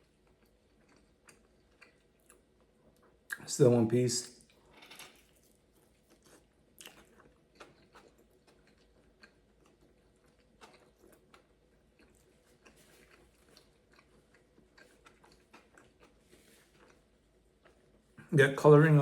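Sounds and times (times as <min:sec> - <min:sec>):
person chewing food: 0:00.0 - 0:03.4, 0:04.4 - 0:18.2.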